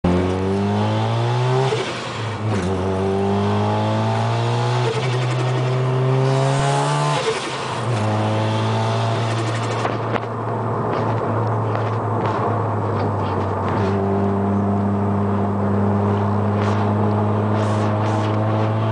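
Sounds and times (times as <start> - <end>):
rotary engine accelerating hard: 0.0 - 18.9.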